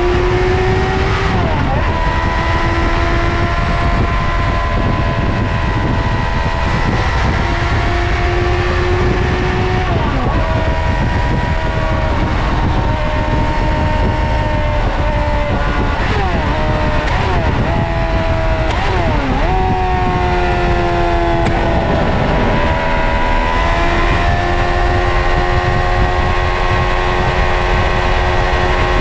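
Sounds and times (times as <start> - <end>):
motorcycle engine running: 0.0 - 29.0
wind noise on microphone: 0.0 - 29.0.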